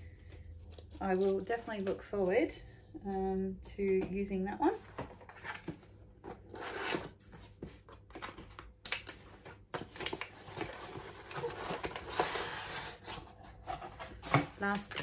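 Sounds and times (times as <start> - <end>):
paper and cardboard rustling: 0.0 - 2.3, 4.7 - 15.0.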